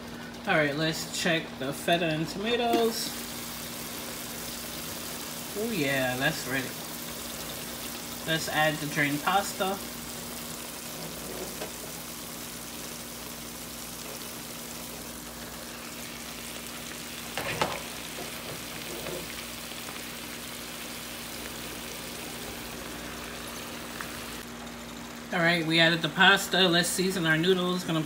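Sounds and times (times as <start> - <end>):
food sizzling in a pot: 0.0 - 28.0.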